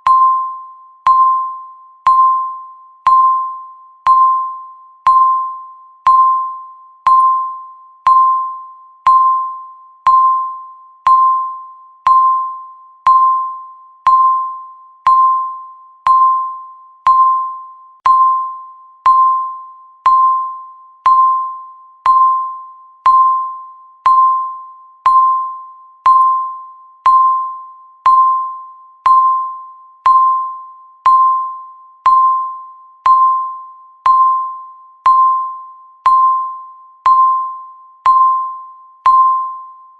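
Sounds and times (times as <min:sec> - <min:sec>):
electronic timer ticking: 0:00.0 - 0:39.6.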